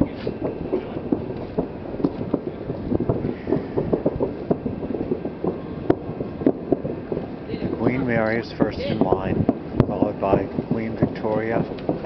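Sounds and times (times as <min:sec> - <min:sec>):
fireworks popping: 0:00.0 - 0:12.0
steady background noise: 0:00.0 - 0:12.0.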